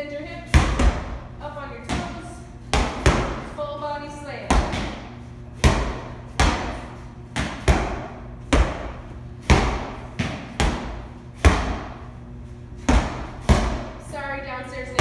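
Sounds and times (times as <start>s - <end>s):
medicine balls thudding on floor: 0.4s - 3.6s, 4.4s - 12.1s, 12.8s - 14.0s.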